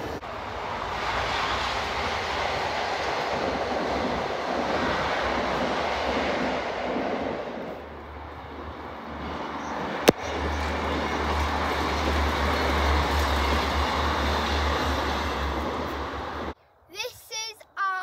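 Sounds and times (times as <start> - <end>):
distant train running: 0.0 - 16.6.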